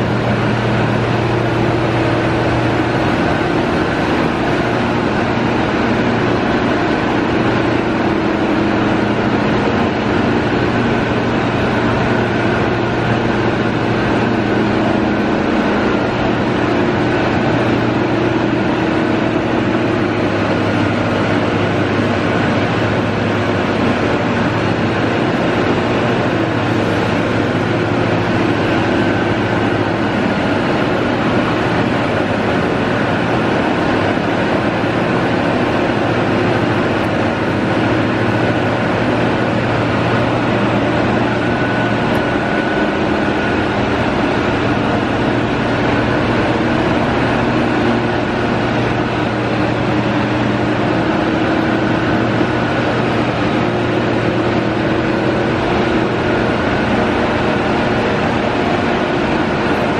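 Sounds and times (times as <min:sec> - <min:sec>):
machine humming: 0:00.0 - 0:59.9.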